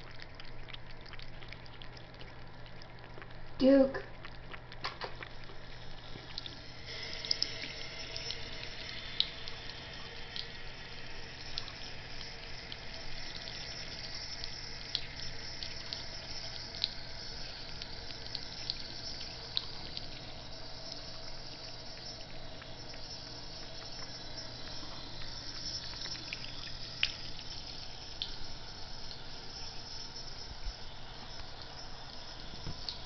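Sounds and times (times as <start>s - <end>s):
faucet trickling into basin: 0.0s - 33.0s.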